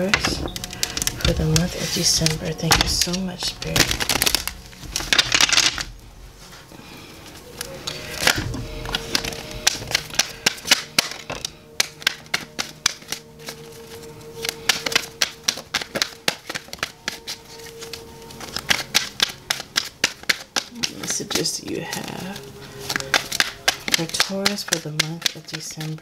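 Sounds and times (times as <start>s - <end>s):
cards being shuffled: 0.0s - 5.9s, 6.5s - 26.0s
soft background music: 0.0s - 26.0s.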